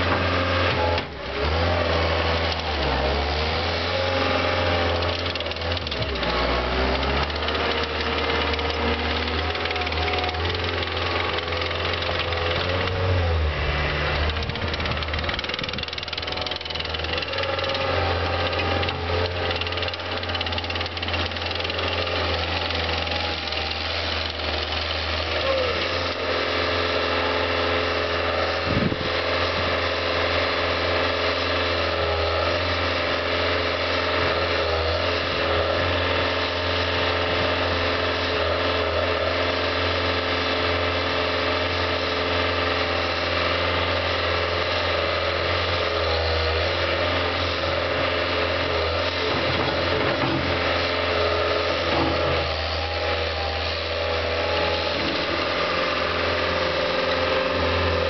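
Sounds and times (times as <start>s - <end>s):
track loader diesel engine: 0.0s - 58.0s.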